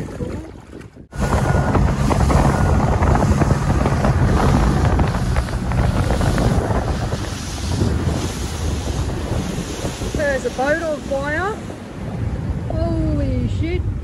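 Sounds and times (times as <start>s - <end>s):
water splashing against hull: 0.0s - 13.1s
wind buffeting microphone: 0.0s - 14.0s.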